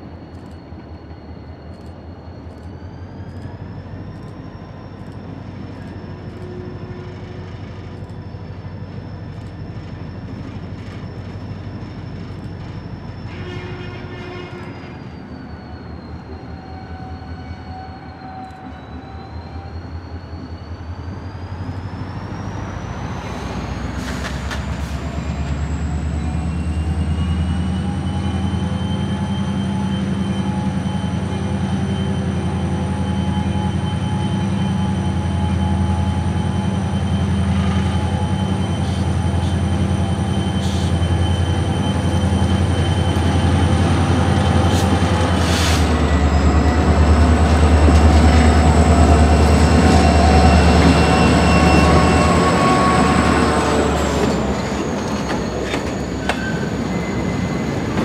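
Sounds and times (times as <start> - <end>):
locomotive engine rumbling: 0.1 - 58.0.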